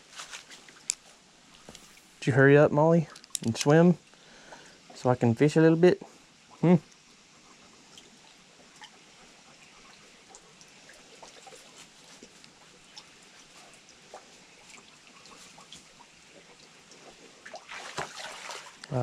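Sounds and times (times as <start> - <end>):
creek water trickling: 0.0 - 19.0
water drips and ticks: 0.3 - 1.8, 2.9 - 19.0.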